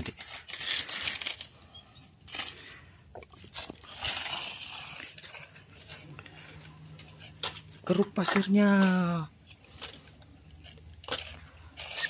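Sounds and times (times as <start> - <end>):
toy trucks scraping through sand: 0.0 - 12.0.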